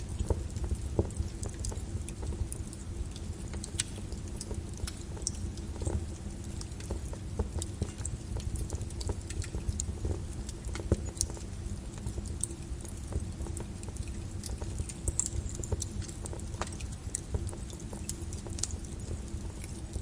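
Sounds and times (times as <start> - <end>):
lava crackling and popping: 0.0 - 20.0.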